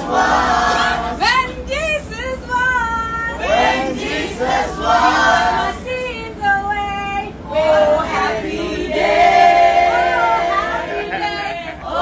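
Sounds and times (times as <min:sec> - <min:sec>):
low rumble of bus: 0:00.0 - 0:12.0
passengers singing together: 0:00.0 - 0:12.0.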